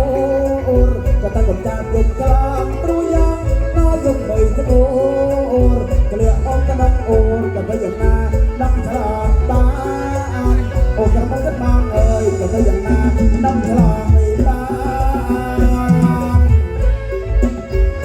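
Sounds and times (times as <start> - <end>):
hand drum beat: 0.0 - 18.0
wavering folk melody: 0.0 - 18.0.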